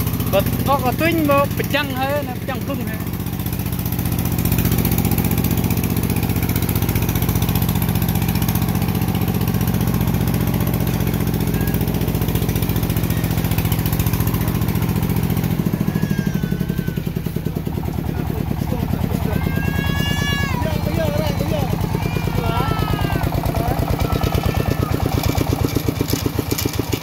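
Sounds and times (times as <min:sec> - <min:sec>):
diesel engine chugging: 0:00.0 - 0:27.0.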